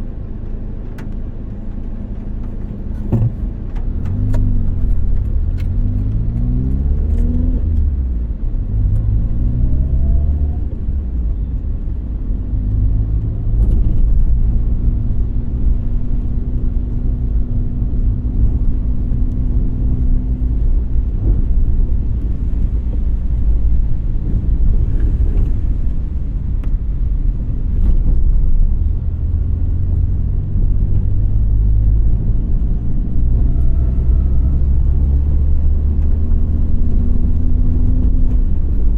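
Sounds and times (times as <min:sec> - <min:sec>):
car engine accelerating: 0:00.0 - 0:38.9
road rumble: 0:00.0 - 0:38.9.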